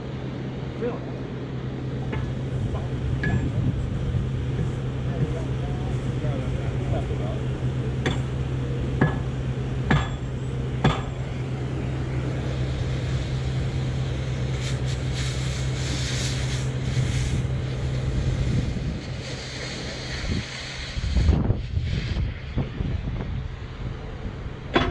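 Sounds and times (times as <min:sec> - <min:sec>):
engine hum: 0:00.0 - 0:24.9
hissing noise: 0:00.7 - 0:22.9.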